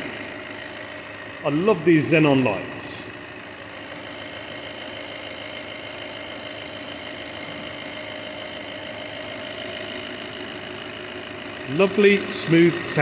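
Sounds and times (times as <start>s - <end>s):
diesel car engine idling: 0.0s - 13.0s.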